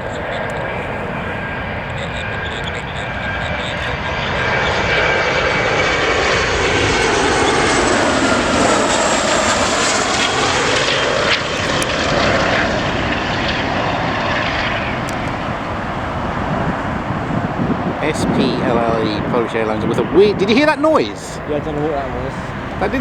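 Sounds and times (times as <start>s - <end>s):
jet engines passing overhead: 0.0s - 23.0s.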